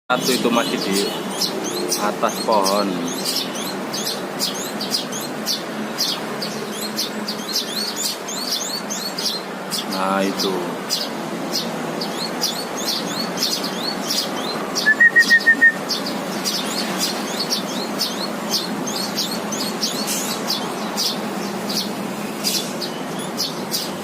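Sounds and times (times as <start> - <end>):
loud high bird notes: 0.1 - 24.0
sparrows chirping: 0.1 - 24.0.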